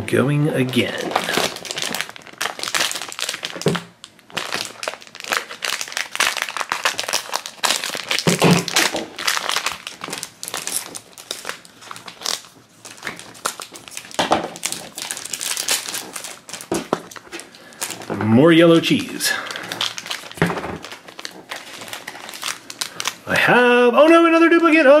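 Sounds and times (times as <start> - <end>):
foil wrapper crinkling and tearing: 0.5 - 24.8.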